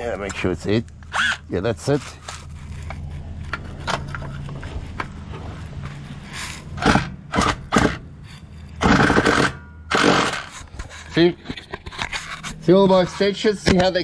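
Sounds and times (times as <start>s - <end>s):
socket wrench rattling and scraping: 1.0s - 13.8s.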